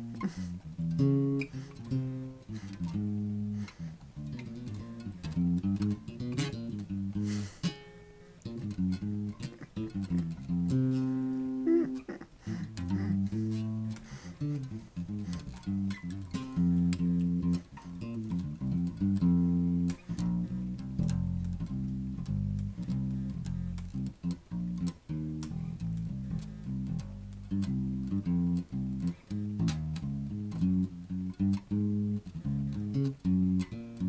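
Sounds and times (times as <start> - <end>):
bass string clicks: 0.0 - 7.3, 8.4 - 11.1, 12.7 - 34.0
electric bass guitar plucked: 0.0 - 34.0.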